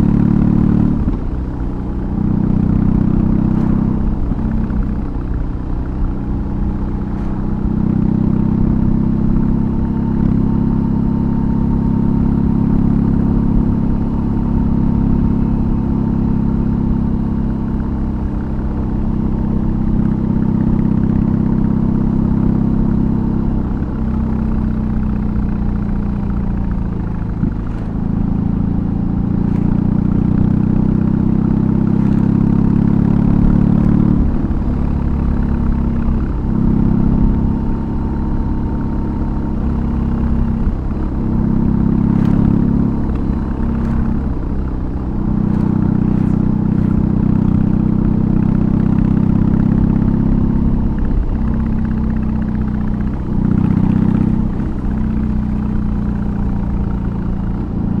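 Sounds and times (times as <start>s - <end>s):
motorcycle engine under load: 0.0s - 58.0s.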